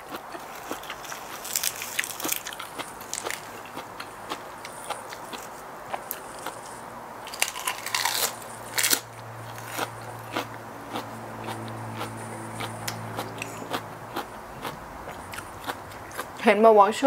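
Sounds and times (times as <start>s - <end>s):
chewing crisp salad: 0.0s - 16.4s
low steady hum: 0.0s - 17.0s.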